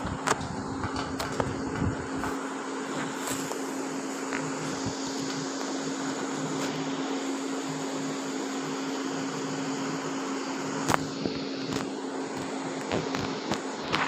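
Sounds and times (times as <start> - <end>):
appliance motor hum and hiss: 0.0 - 14.0.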